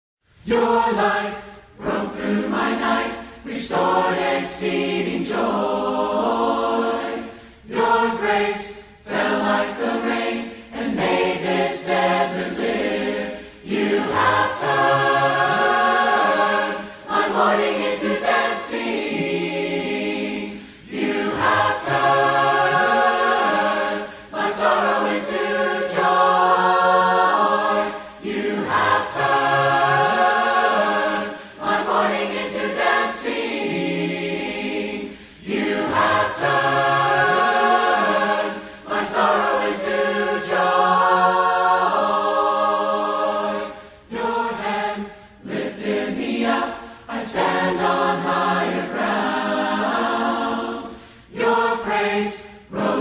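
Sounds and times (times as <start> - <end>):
worship song with sung vocals: 0.3 - 53.0.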